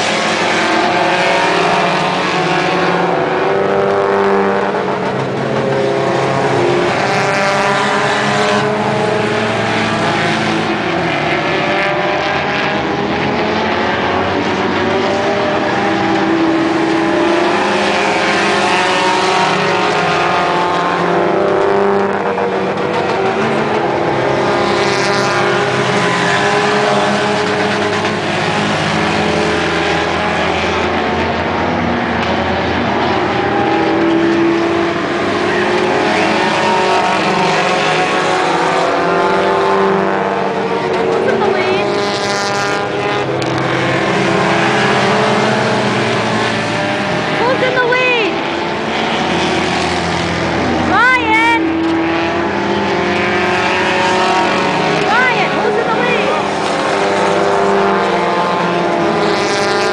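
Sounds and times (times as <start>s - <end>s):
race car engines passing: 0.0s - 59.9s.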